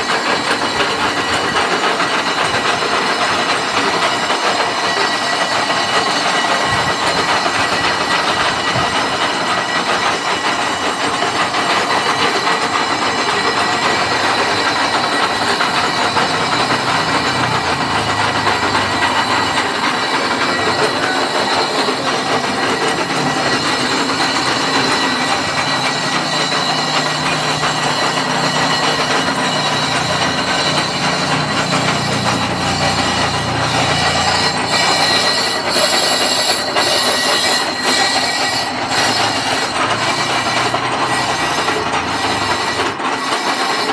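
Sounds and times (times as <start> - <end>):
machine tool grinding: 0.0 - 43.9.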